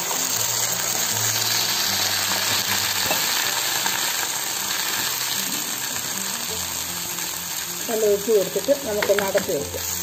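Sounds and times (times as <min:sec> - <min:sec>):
food sizzling in hot pan: 0:00.0 - 0:10.0.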